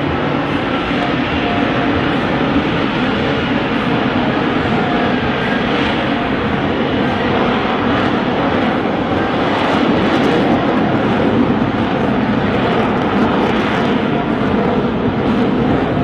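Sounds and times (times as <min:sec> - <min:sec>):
jet engine roaring: 0:00.0 - 0:16.0.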